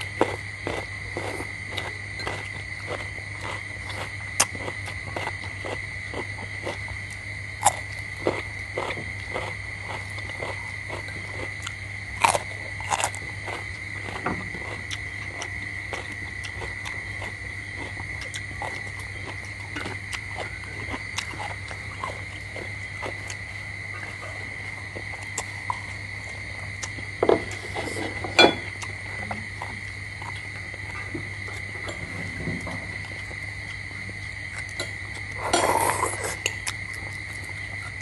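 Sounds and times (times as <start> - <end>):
chewing and mouth sounds: 0.0 - 31.7, 32.9 - 38.0.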